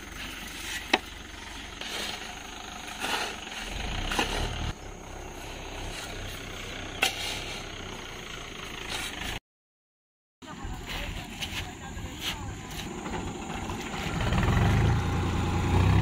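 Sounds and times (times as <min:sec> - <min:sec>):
tractor engine idling: 0:00.0 - 0:09.4, 0:10.5 - 0:15.9.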